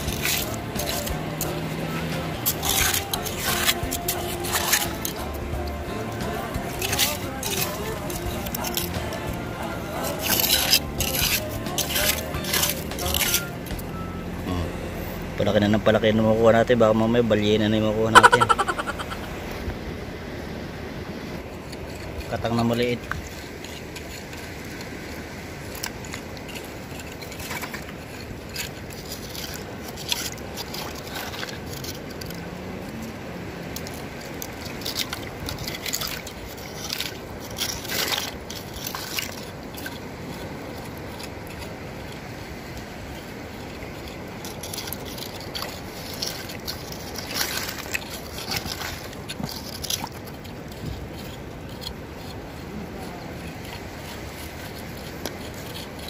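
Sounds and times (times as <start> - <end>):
wet squelches: 0.0 - 16.1, 18.1 - 19.8, 23.0 - 56.0
hand scraping wet sand and stones: 0.0 - 56.0.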